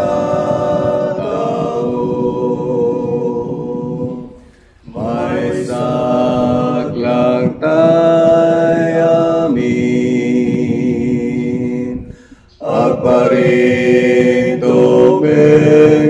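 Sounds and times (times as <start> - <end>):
a cappella harmony singing: 0.0 - 16.0.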